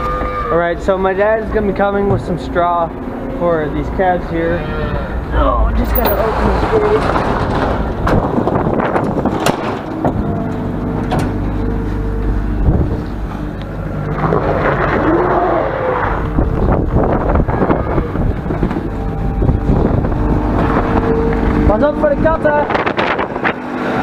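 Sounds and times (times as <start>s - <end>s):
tractor engine running: 0.0s - 15.0s, 16.0s - 24.0s.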